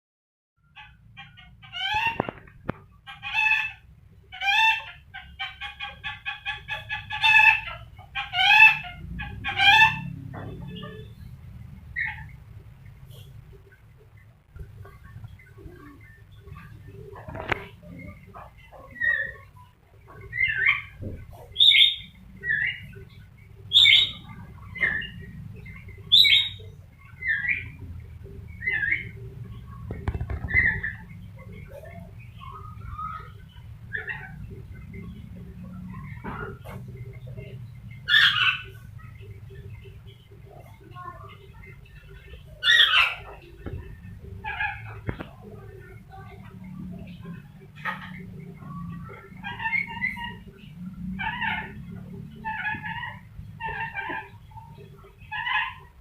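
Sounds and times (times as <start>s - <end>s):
parrot clucking and cackling: 0.6s - 13.8s, 14.5s - 56.0s.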